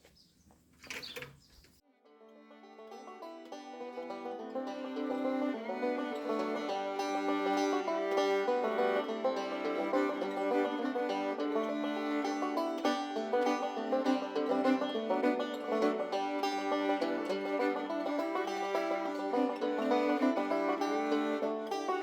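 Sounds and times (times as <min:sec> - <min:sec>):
bluegrass music with banjo: 0:02.1 - 0:22.0.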